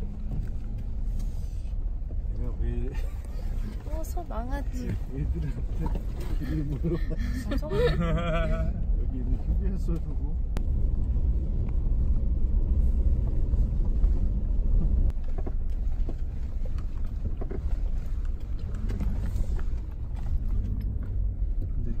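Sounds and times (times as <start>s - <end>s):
vehicle cabin low rumble: 0.0s - 22.0s.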